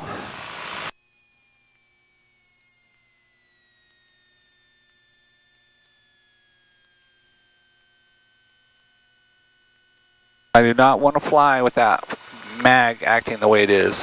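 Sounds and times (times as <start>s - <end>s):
high electrical chirp: 0.0s - 14.0s.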